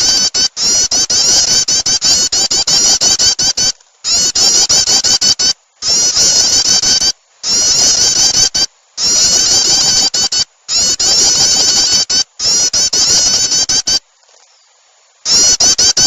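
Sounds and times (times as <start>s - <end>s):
recorded bird chirping: 0.0s - 16.0s.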